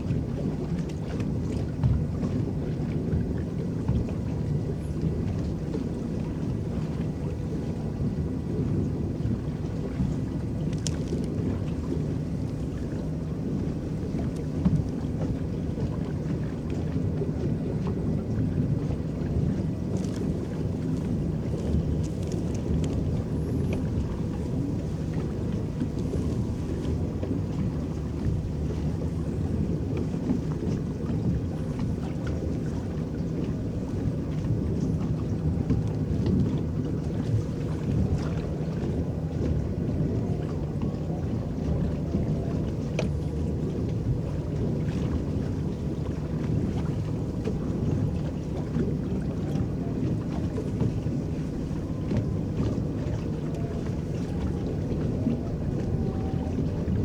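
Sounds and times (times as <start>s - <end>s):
paddles churning water: 0.0s - 57.0s.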